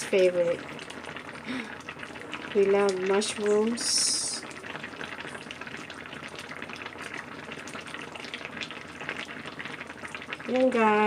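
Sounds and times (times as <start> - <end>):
broth bubbling in a pot: 0.0 - 11.0.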